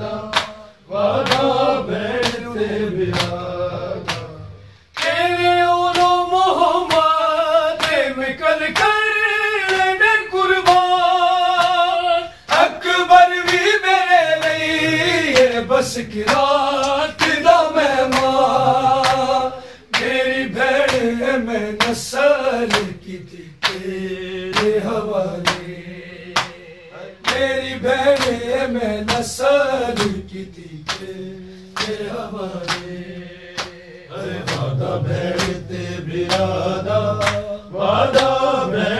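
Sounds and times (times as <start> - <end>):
men singing together: 0.0 - 38.9.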